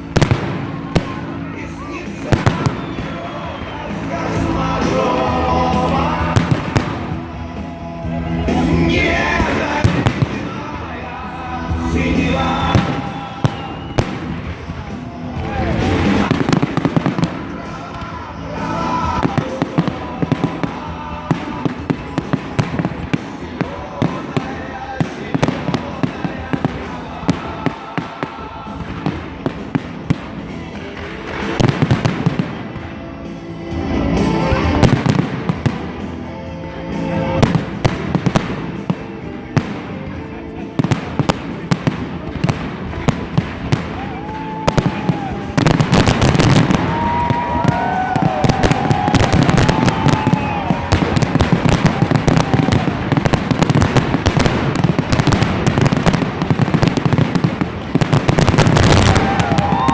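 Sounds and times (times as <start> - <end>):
fireworks bangs and crackling: 0.0 - 59.9
music playing: 0.0 - 59.9
whistling fireworks: 0.0 - 59.9.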